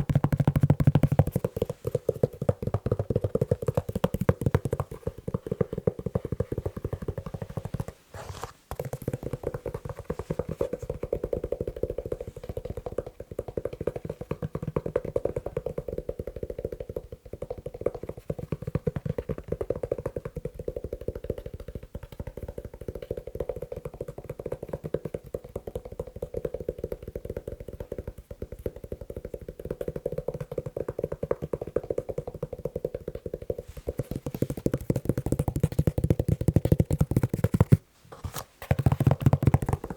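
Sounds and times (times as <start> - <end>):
fast tapping on leather shoe: 0.0 - 37.9, 38.6 - 39.9.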